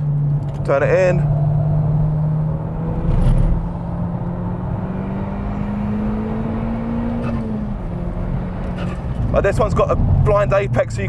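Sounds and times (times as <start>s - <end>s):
car engine accelerating: 0.0s - 11.0s
tyre and road noise: 0.0s - 11.0s.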